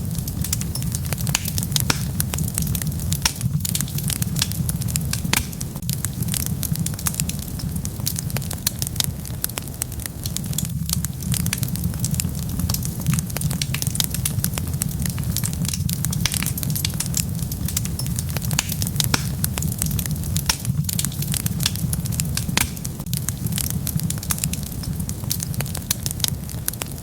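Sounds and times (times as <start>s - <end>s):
low rumble of flames: 0.0s - 27.0s
wood fire crackling and popping: 0.0s - 27.0s.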